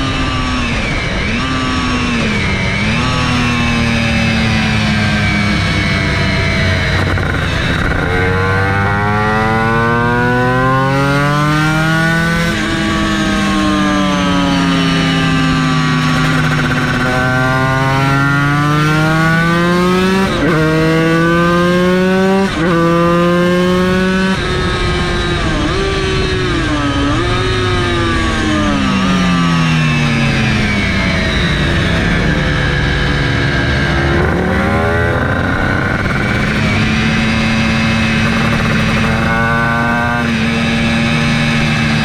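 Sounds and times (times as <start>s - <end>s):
racing motorcycle engine accelerating: 0.0s - 42.0s.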